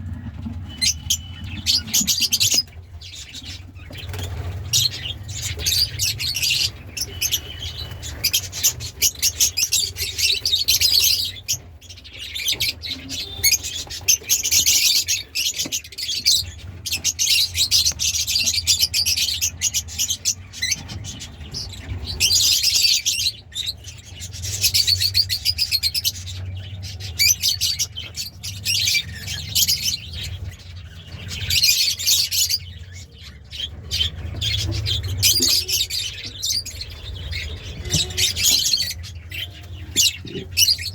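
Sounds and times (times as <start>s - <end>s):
lovebirds chirping: 0.0s - 40.9s.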